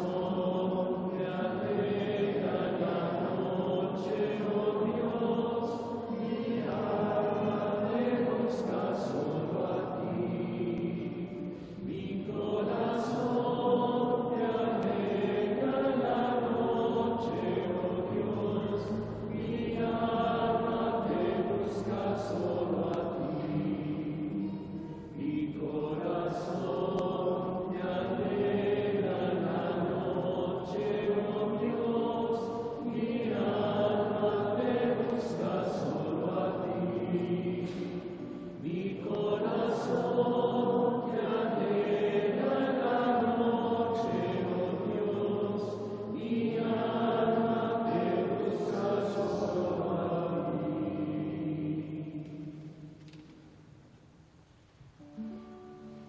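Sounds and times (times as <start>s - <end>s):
congregation singing a chant: 0.0s - 53.6s.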